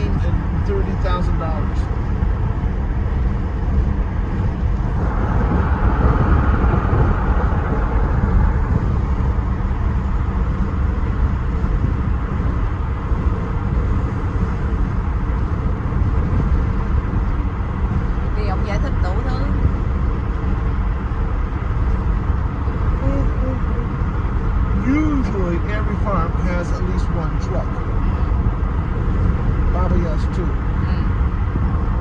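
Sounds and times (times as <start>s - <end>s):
vehicle road rumble: 0.0s - 32.0s.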